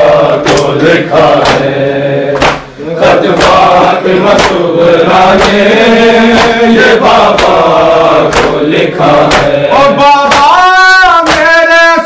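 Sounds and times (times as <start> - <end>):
men chanting in unison: 0.0 - 12.0
hands slapping chests: 0.2 - 11.7.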